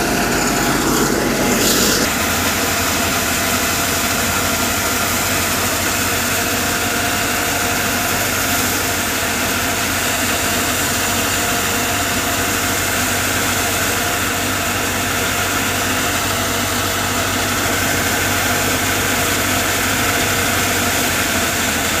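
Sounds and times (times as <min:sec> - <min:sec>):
thresher drum whirring: 0:00.0 - 0:22.0
tractor diesel engine under load: 0:00.0 - 0:22.0.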